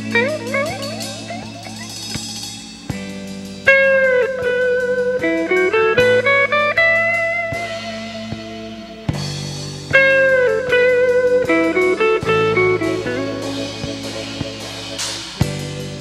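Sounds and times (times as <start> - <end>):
drum hits: 0.0 - 4.6, 5.2 - 16.0
electric guitar lead: 0.0 - 16.0.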